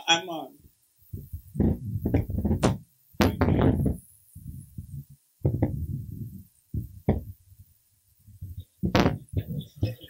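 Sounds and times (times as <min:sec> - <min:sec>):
microphone handling thumps: 0:00.6 - 0:10.0.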